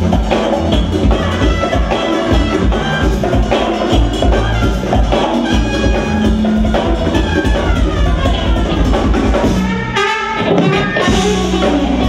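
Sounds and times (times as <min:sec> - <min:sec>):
jazz-funk band playing: 0:00.0 - 0:12.0.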